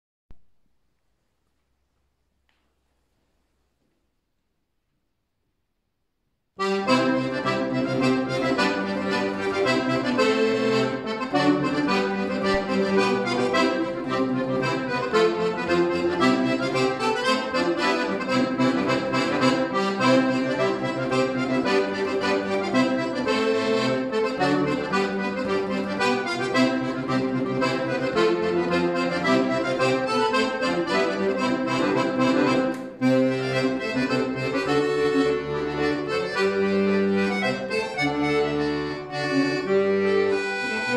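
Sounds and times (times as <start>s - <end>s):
piano accordion playing: 6.6s - 40.9s.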